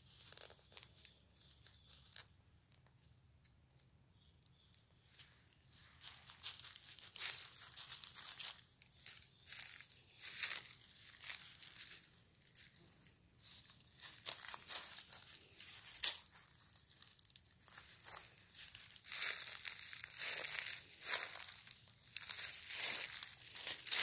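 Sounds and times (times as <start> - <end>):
dry leaves crackling and rustling: 0.0 - 2.3, 5.1 - 24.0.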